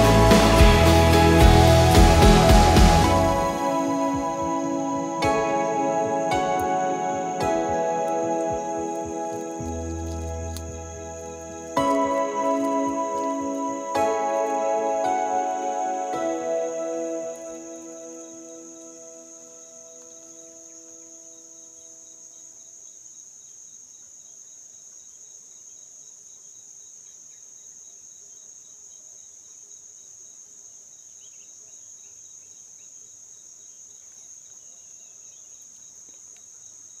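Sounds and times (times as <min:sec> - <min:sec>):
insects droning: 0:00.0 - 0:37.0
faint insect chirps: 0:03.1 - 0:37.0.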